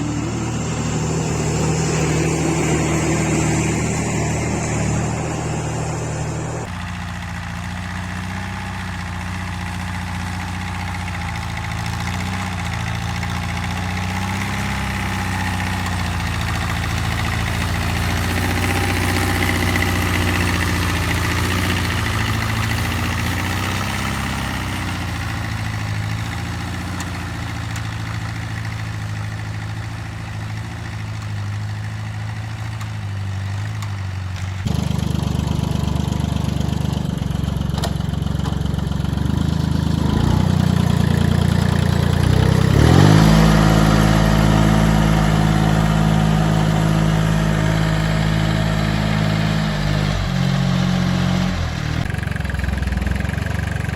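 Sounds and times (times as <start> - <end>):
small tractor engine running: 0.0 - 53.9.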